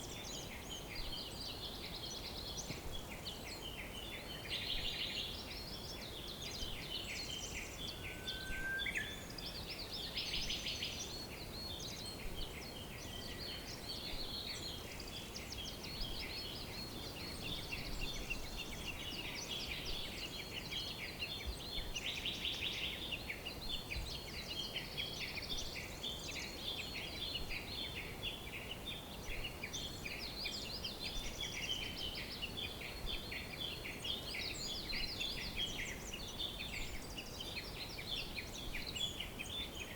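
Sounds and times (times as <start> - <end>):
songbirds chirping and trilling: 0.0 - 39.9
steady background hiss: 0.0 - 39.9.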